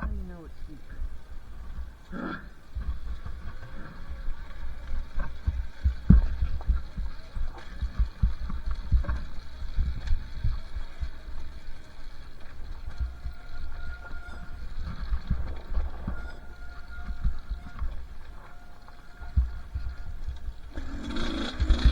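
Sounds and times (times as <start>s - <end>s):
dirt bike engine rumble: 0.0s - 21.9s
wind buffeting microphone: 0.0s - 21.9s.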